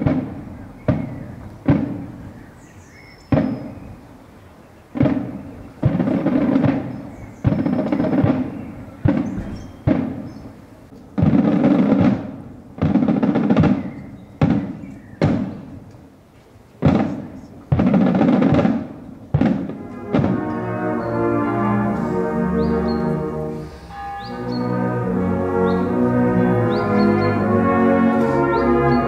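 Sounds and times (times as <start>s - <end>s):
snare drums beating slow cadence: 0.0s - 2.4s, 3.3s - 3.9s, 5.0s - 16.0s, 16.8s - 29.0s.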